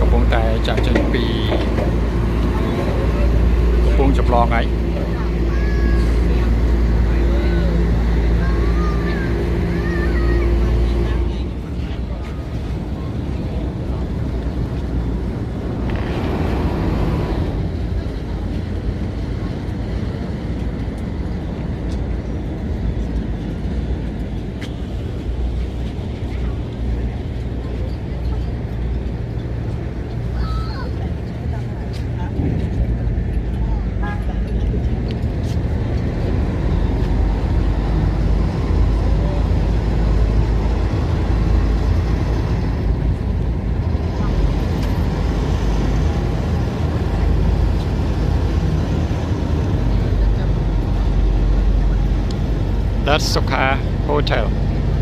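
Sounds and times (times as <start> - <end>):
ferry engine rumbling: 0.0 - 55.0
rush of noise: 0.0 - 55.0.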